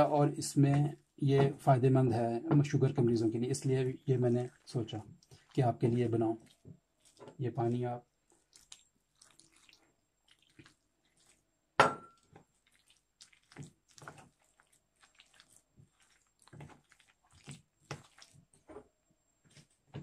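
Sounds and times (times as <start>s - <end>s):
fork stirring wet batter: 2.8s - 11.6s, 12.2s - 20.0s.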